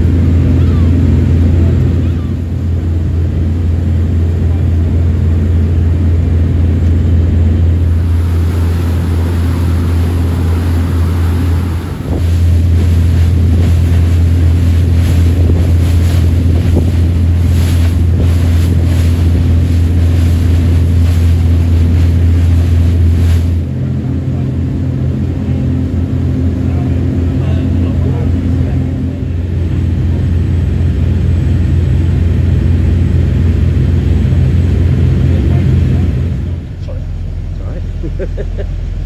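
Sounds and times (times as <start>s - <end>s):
water rushing past: 0.0s - 37.6s
boat engine running: 0.0s - 39.0s
wind: 0.0s - 39.0s.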